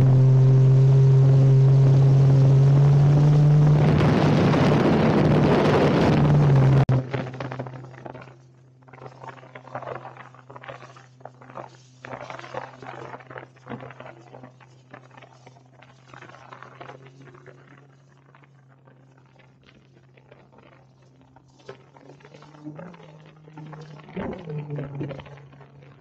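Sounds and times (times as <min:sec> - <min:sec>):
jet ski engine drone: 0:00.0 - 0:26.0.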